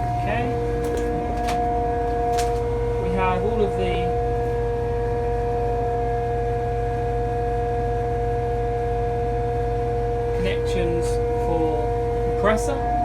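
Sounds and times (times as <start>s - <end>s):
compressor and generator whining: 0.0s - 13.0s
engine low drone: 0.0s - 13.0s.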